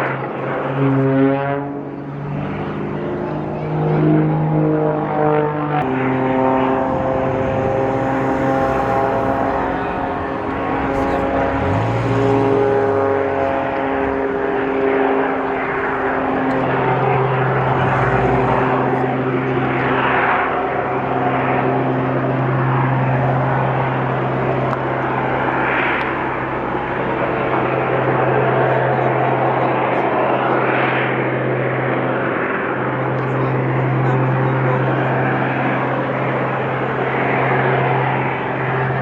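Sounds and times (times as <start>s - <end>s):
propeller aircraft engine droning: 0.0s - 39.0s.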